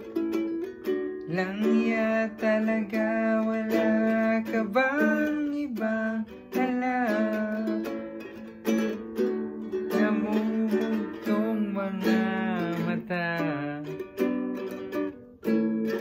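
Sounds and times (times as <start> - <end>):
nylon-strung guitar strummed: 0.0 - 16.0
person singing: 0.0 - 16.0.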